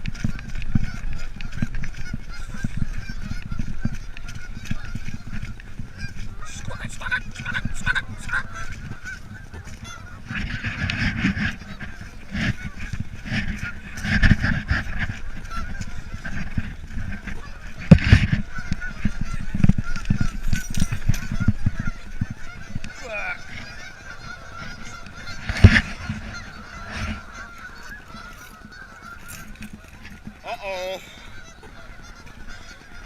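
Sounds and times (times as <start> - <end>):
geese honking: 0.0 - 33.0.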